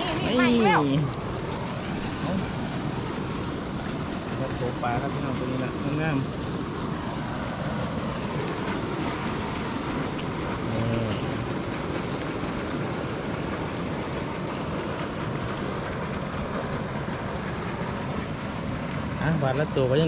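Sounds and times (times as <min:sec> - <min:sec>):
water rushing from outlet pipe: 0:00.0 - 0:20.0.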